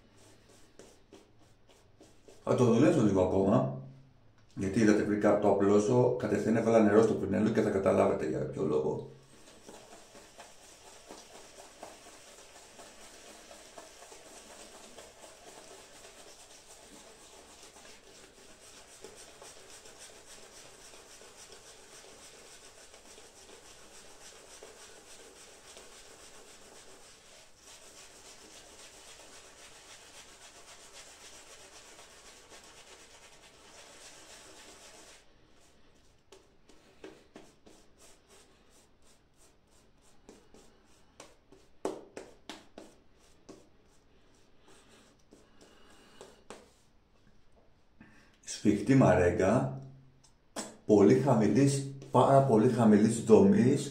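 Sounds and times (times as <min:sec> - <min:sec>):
shaving brush rubbing on skin: 0:00.0 - 0:02.9, 0:09.2 - 0:46.9, 0:50.6 - 0:53.9.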